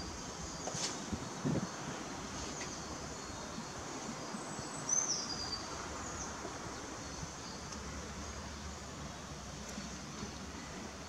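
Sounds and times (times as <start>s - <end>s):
faint distant birds: 0.0s - 11.0s
woodland background hiss: 0.0s - 11.0s.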